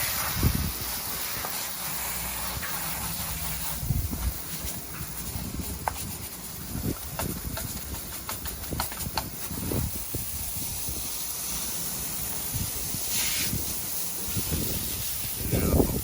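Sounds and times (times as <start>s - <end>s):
hose spraying water on concrete: 0.0s - 16.0s.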